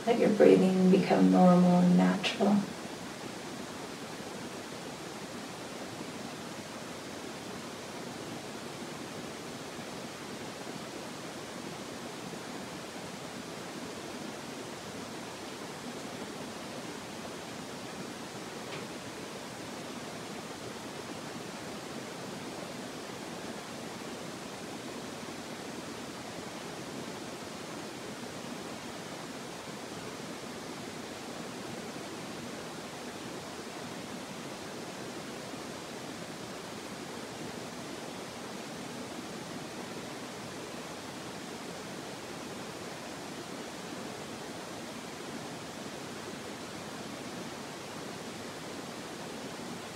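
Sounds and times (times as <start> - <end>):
steady hiss: 0.0 - 49.9.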